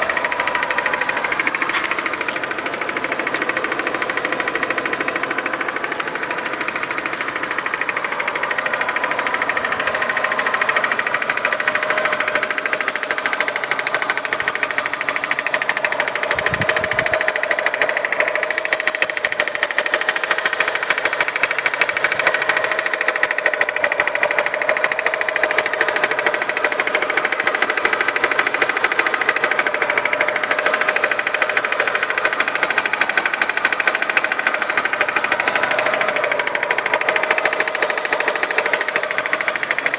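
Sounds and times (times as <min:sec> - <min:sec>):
car engine running at low revs: 0:00.0 - 0:39.9
rapid metallic clicking: 0:00.0 - 0:39.9.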